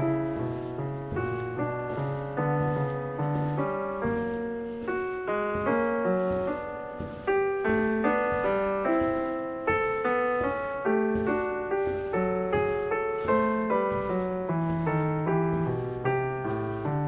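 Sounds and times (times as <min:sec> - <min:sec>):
calm piano melody: 0:00.0 - 0:17.0.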